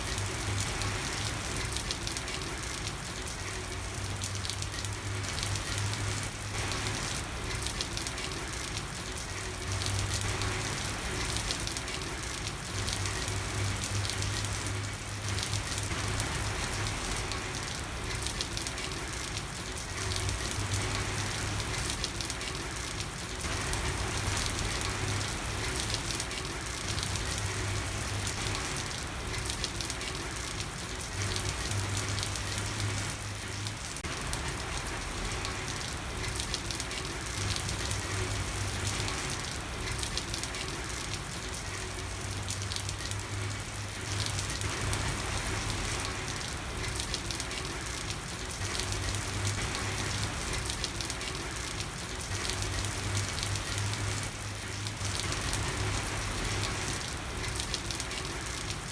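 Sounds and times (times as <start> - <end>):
rain falling on a street: 0.0 - 58.9.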